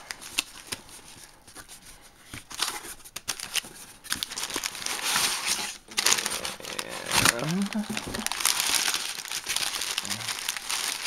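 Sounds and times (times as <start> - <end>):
packing paper crinkling: 0.0 - 11.0.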